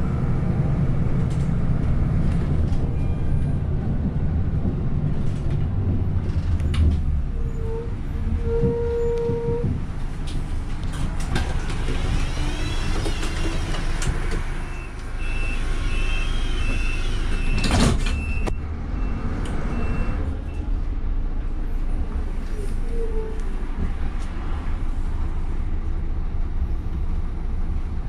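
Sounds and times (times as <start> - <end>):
bus engine rumbling: 0.0 - 28.0.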